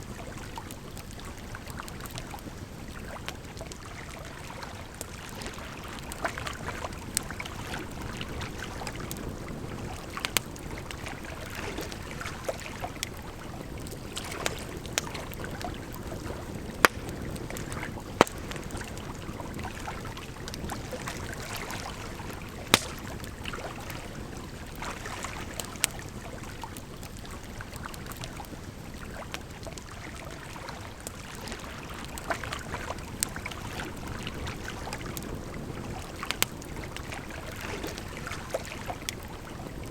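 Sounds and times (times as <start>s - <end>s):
campfire crackling: 0.0s - 39.9s
flowing water: 0.0s - 39.9s.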